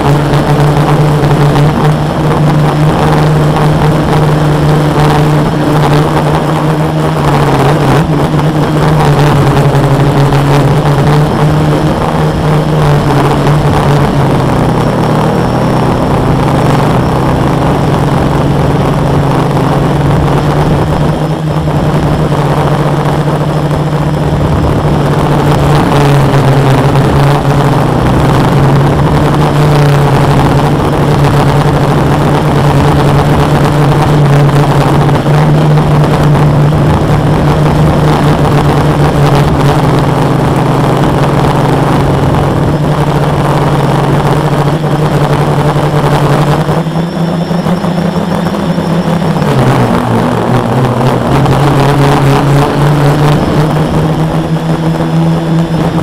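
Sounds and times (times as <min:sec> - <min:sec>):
quadcopter motors droning: 0:00.0 - 0:56.0.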